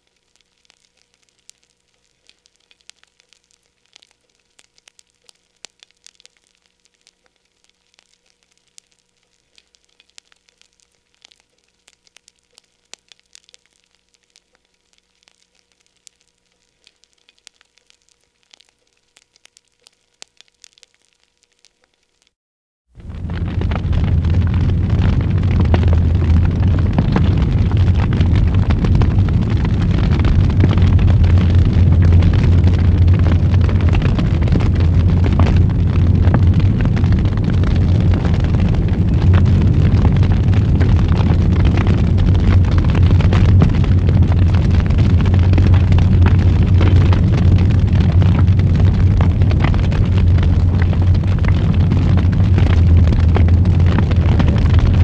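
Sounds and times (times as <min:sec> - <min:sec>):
fire crackling and popping: 0:00.0 - 0:55.0
wood fire rumbling: 0:02.2 - 0:21.6, 0:22.9 - 0:55.0.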